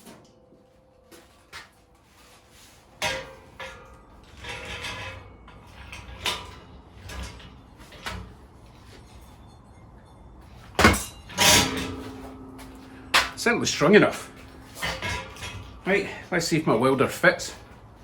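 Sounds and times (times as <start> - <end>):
steel knocks and clanks: 3.0 - 17.8.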